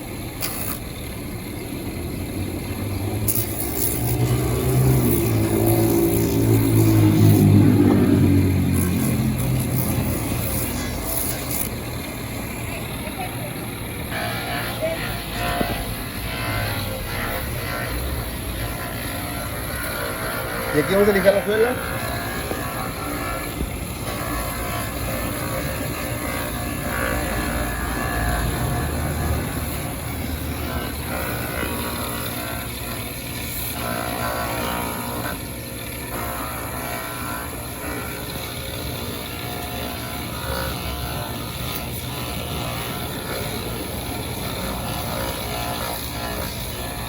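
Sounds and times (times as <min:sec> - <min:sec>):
electric sander sanding rubber: 0:00.0 - 0:47.0.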